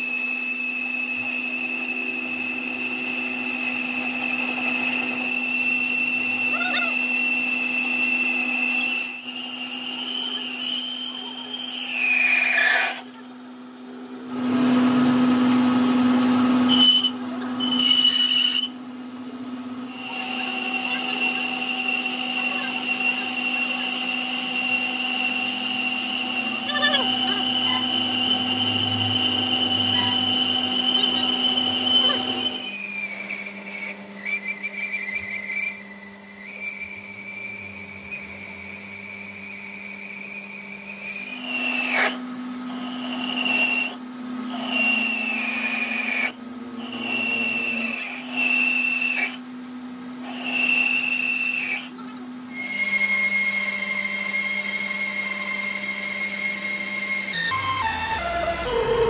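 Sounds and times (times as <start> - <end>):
high-pitched cutting tool squeal: 0.0 - 13.6, 14.7 - 18.8, 19.8 - 59.0
lathe motor hum: 0.0 - 59.0.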